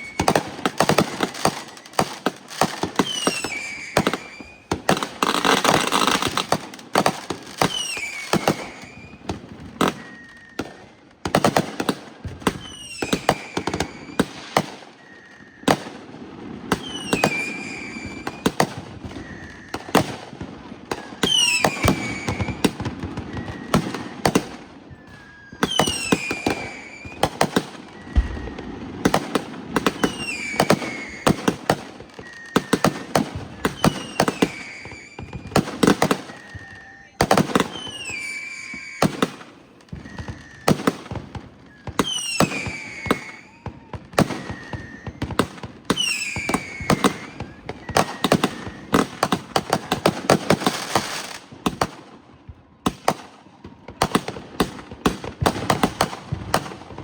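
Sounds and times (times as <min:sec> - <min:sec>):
falling firework whistle: 0:00.0 - 0:51.4
fireworks bangs and crackling pops: 0:00.0 - 0:57.0.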